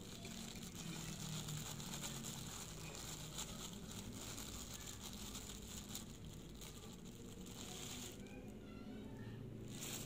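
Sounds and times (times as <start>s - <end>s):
plastic bag crinkling: 0.0s - 8.6s, 9.6s - 10.0s.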